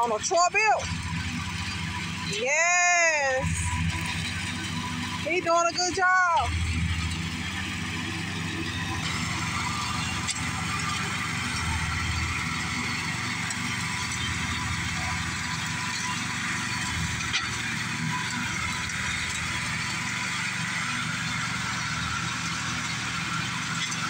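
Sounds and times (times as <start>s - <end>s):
blades cutting dry grass: 0.0s - 24.0s
riding lawn mower engine: 0.0s - 24.0s.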